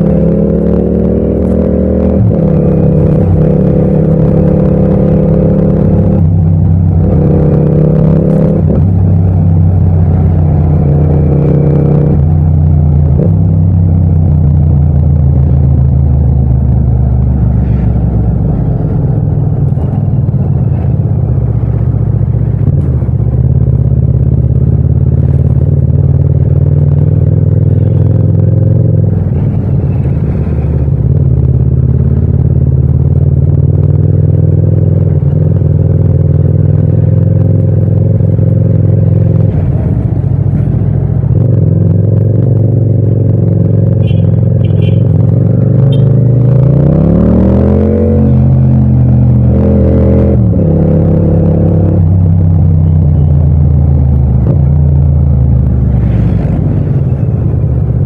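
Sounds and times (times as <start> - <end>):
motorcycle engine revving: 0.0 - 58.0
motorcycle engine running: 0.0 - 58.0.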